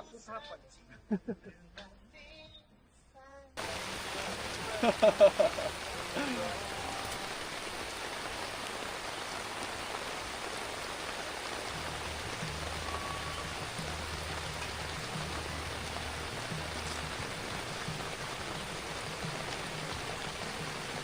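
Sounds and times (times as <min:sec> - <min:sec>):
steady rain falling: 0:03.6 - 0:21.0.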